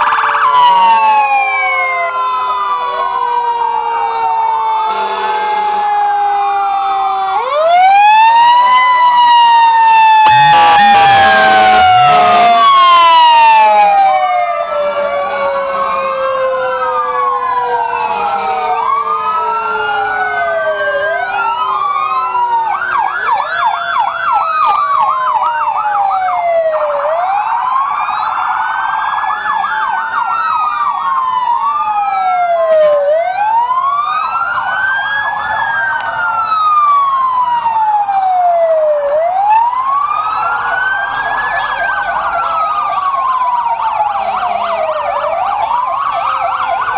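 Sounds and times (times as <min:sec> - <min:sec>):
emergency vehicle sirens: 0:00.0 - 0:46.9.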